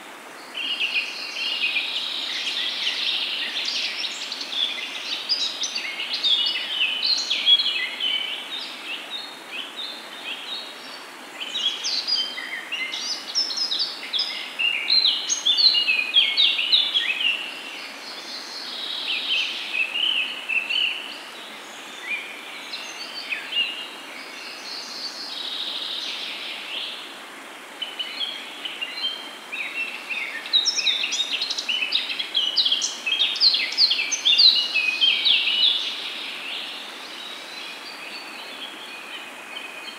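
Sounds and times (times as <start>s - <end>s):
birds chirping and twittering: 0.4s - 27.1s, 27.7s - 39.9s.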